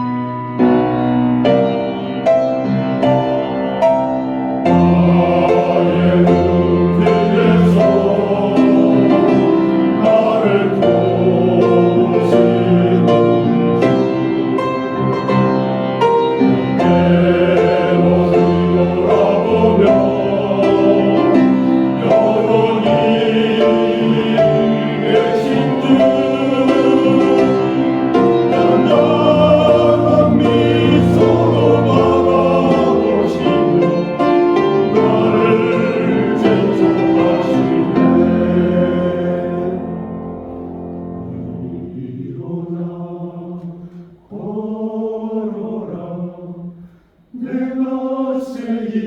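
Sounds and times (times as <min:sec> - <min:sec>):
instrumental accompaniment: 0:00.0 - 0:42.2
church choir singing a hymn: 0:00.0 - 0:49.0.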